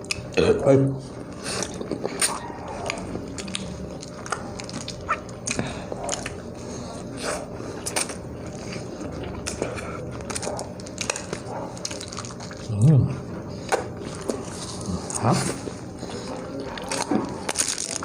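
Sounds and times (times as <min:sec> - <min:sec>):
chewing with wet smacks: 0:00.0 - 0:00.4, 0:01.1 - 0:18.0.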